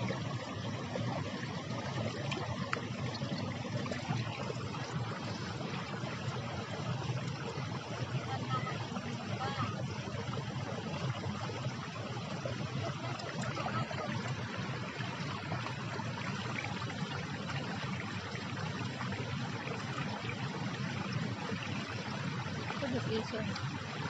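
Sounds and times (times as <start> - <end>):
water trickling in a pond: 0.0 - 24.0.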